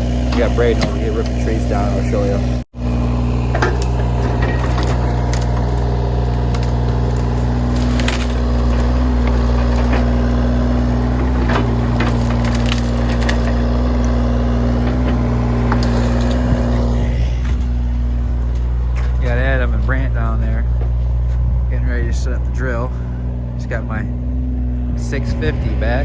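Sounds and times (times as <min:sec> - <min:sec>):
wood cracking and splintering: 0:00.0 - 0:21.3
machine engine running: 0:00.0 - 0:26.0.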